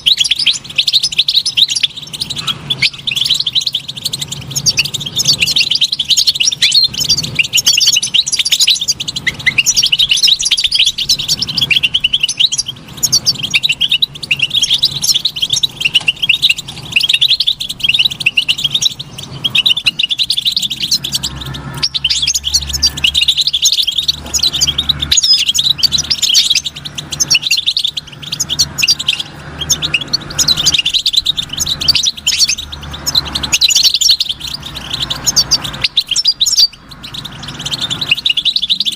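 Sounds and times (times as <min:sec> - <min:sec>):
goldfinch singing: 0:00.0 - 0:38.9.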